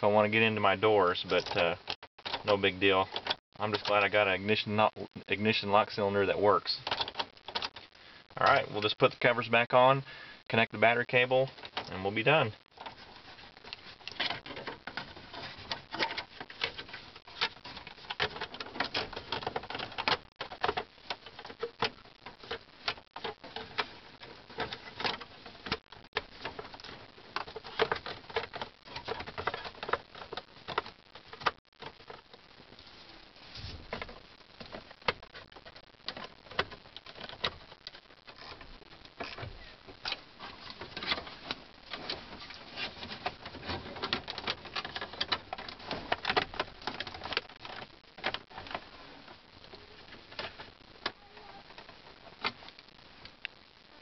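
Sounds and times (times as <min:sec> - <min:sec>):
plastic panels clicking and rattling: 0:01.3 - 0:04.1, 0:06.8 - 0:07.9, 0:11.4 - 0:32.4, 0:33.8 - 0:52.8.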